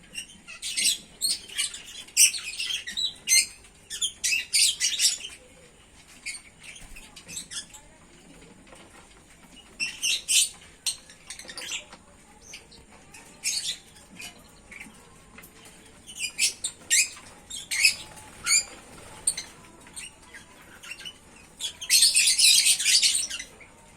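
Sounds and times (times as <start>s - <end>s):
birds chirping and squawking: 0.0s - 23.9s.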